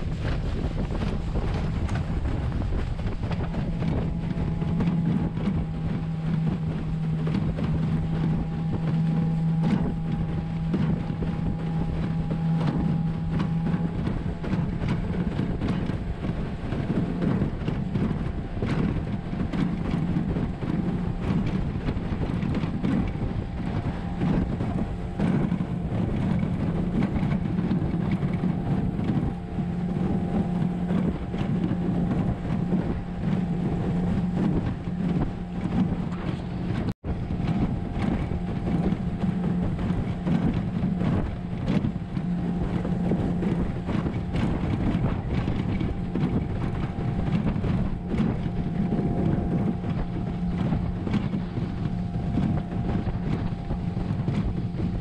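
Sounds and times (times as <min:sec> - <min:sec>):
boat motor humming: 0:00.0 - 0:55.0
water splashing against hull: 0:00.0 - 0:55.0
wind buffeting microphone: 0:00.0 - 0:55.0.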